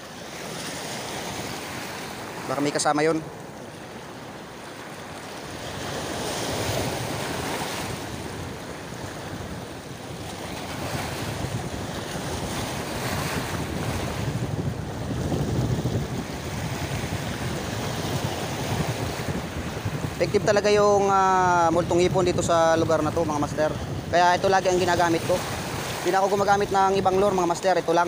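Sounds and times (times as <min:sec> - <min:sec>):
water splashing along boat hull: 0:03.3 - 0:28.0
wind buffeting microphone: 0:05.0 - 0:28.0.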